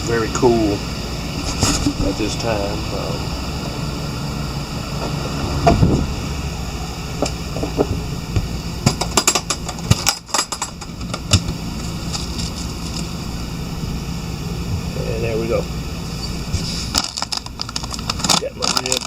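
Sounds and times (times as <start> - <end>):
mechanical cooling hum: 0.0 - 19.0.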